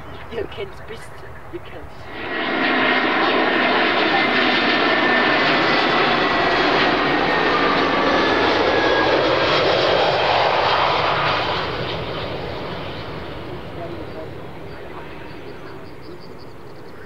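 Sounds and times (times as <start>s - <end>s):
high engine whine: 0.0s - 17.0s
jet engines rushing: 0.0s - 17.0s.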